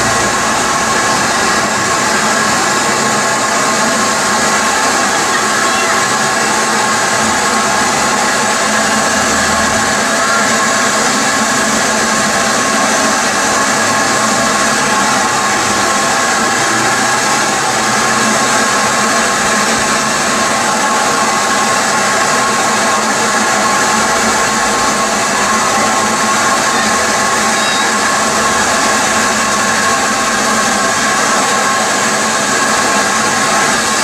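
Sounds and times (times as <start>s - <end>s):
steam locomotive hissing: 0.0s - 34.0s
whistling tones in steam: 0.0s - 34.0s.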